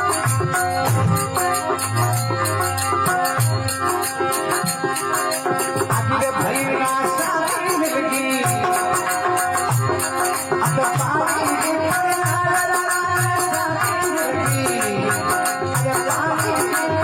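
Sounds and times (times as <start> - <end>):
shaker percussion rhythm: 0.0 - 17.0.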